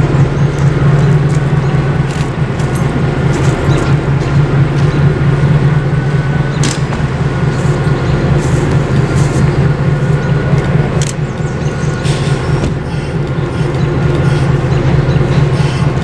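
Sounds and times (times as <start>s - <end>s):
diesel locomotive humming: 0.0s - 16.0s.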